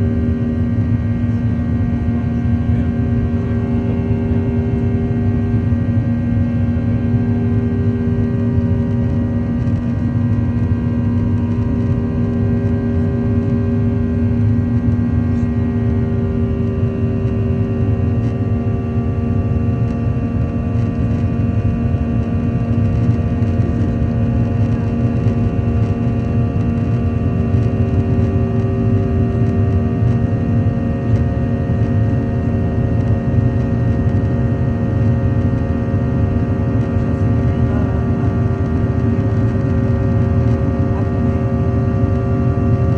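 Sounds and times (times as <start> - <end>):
jet engines roaring at takeoff: 0.0 - 42.9.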